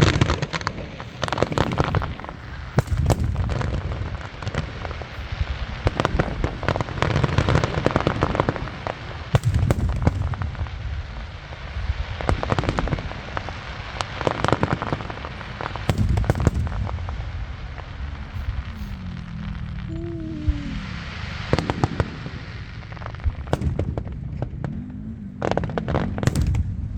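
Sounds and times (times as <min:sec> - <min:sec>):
deep booms of fireworks shells: 0:00.0 - 0:26.9
fireworks crackling and popping: 0:00.0 - 0:26.9.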